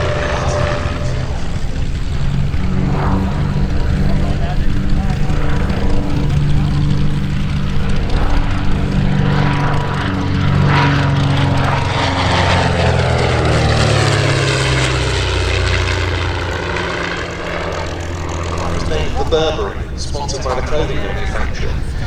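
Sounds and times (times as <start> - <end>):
propeller plane flying past: 0.0 - 22.0.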